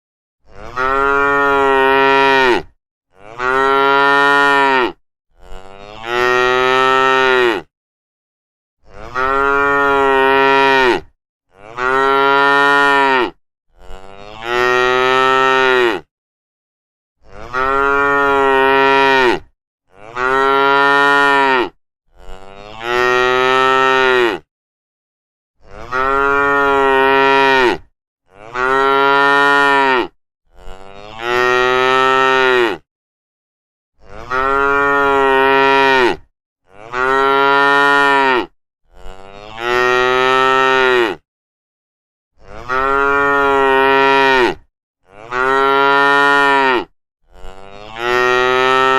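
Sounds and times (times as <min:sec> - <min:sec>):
cattle mooing: 0:00.5 - 0:07.7, 0:08.9 - 0:16.1, 0:17.2 - 0:24.5, 0:25.7 - 0:32.8, 0:34.0 - 0:41.2, 0:42.4 - 0:48.9.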